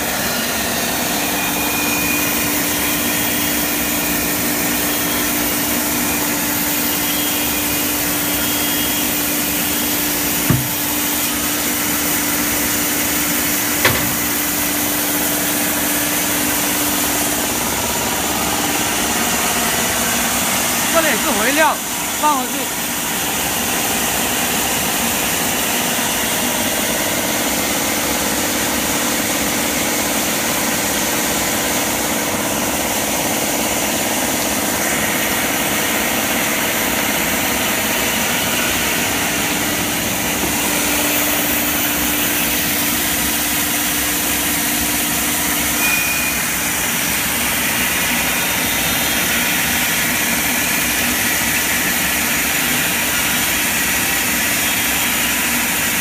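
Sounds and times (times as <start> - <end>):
band saw running: 0.0 - 56.0.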